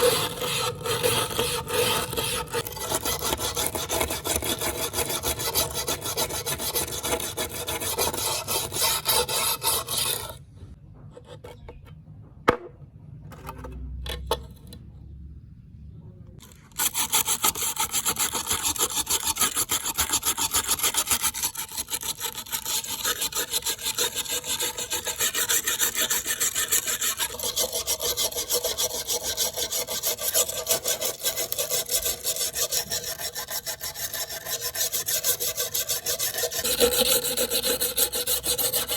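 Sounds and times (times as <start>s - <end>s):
knife scraping on abrasive: 0.0s - 10.4s, 16.4s - 38.9s.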